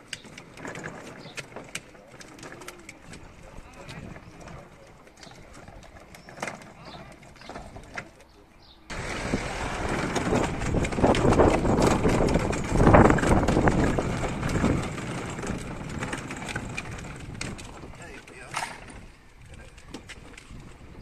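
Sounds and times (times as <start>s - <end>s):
plastic toy wheels rattling on pavement: 0.0s - 21.0s.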